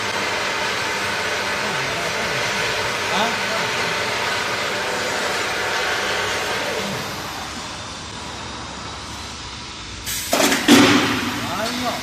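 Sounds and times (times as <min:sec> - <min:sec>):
machinery running: 0:00.0 - 0:12.0.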